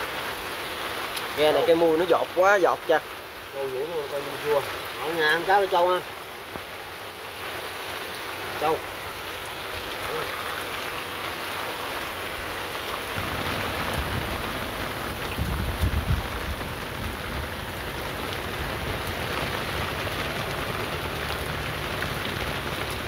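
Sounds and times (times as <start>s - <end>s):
steady rain on a boat: 0.0s - 23.0s.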